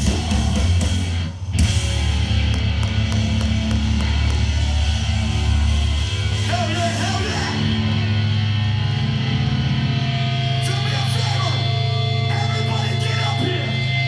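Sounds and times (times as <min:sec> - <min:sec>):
distorted electric guitars and bass: 0:00.0 - 0:14.0.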